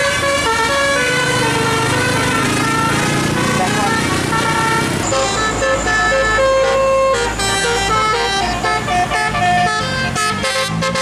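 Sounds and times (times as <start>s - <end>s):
musical bus air horn: 0.0s - 11.0s.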